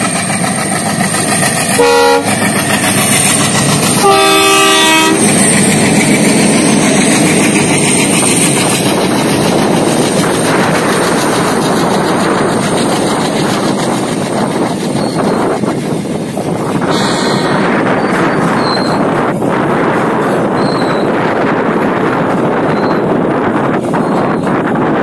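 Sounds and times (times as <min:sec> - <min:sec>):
freight train wheels rattling: 0:00.0 - 0:25.0.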